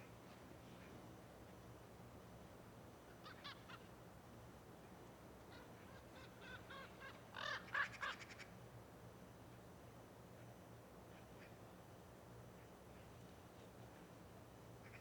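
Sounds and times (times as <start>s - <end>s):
faint background noise: 0.0s - 15.0s.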